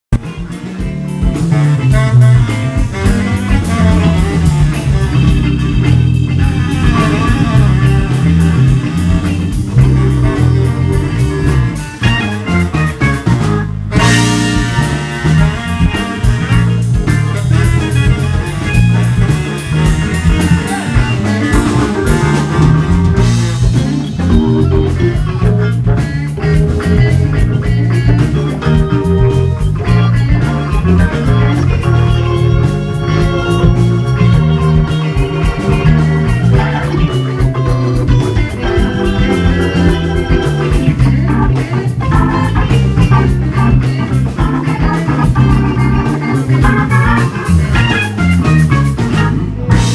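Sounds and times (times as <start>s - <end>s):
electric bass: 0.0s - 49.9s
drum kit: 0.1s - 49.9s
organ: 0.1s - 49.9s.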